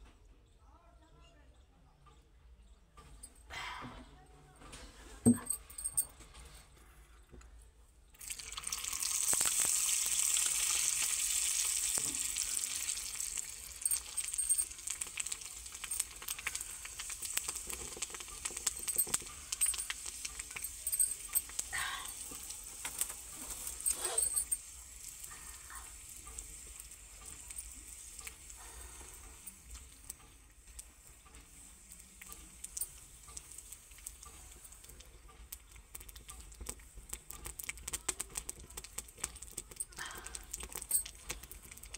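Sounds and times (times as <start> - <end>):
oil crackles and pops: 8.1 - 41.9
spices sizzling in hot oil: 8.2 - 41.9.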